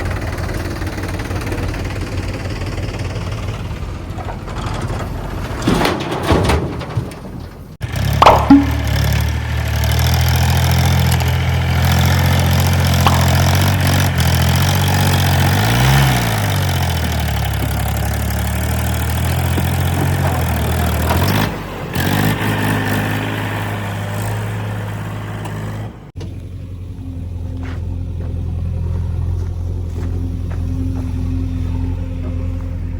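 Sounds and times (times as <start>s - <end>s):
heavy diesel engine running: 0.0s - 5.6s, 7.6s - 32.9s.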